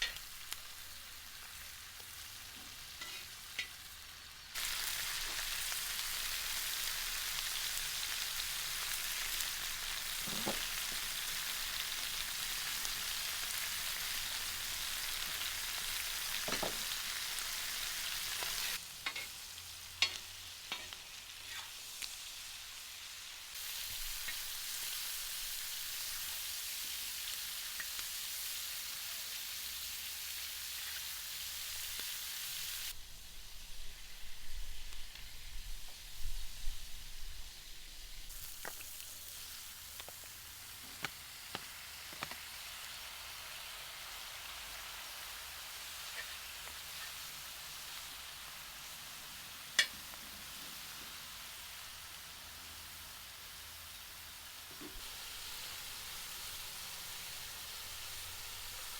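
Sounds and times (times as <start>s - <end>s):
food sizzling on hot metal: 0.0s - 58.9s.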